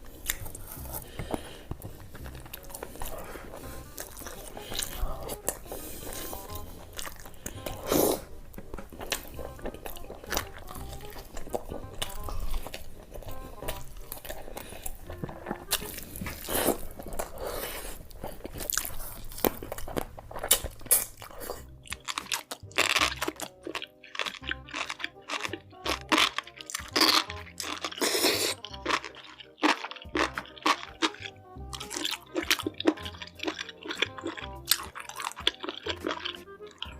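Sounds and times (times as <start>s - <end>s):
background music: 0.0s - 36.9s
crunching and chewing food: 0.0s - 36.9s.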